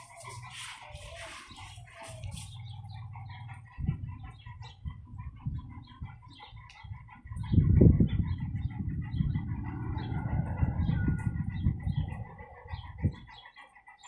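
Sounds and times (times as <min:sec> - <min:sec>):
birds clucking calls: 0:00.0 - 0:14.0
low rumble on microphone: 0:01.6 - 0:13.3.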